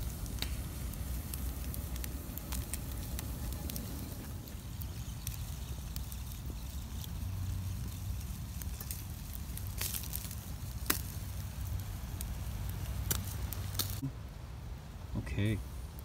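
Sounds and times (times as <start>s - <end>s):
low rumble of stove: 0.0s - 16.0s
wood fire crackling: 0.0s - 16.0s.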